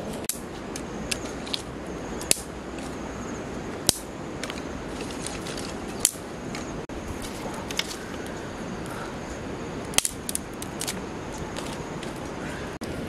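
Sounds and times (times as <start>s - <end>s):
steady background noise: 0.0s - 13.0s
dry sticks cracking: 0.1s - 3.0s, 3.8s - 9.0s, 9.8s - 12.4s.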